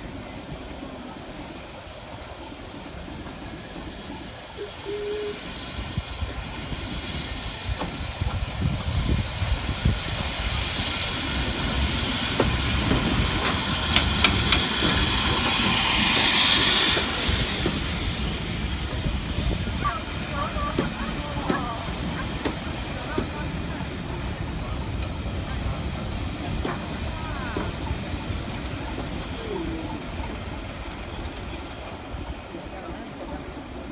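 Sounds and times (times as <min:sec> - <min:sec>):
steam hissing: 0:00.0 - 0:33.9
train wheels rumbling: 0:00.0 - 0:33.9.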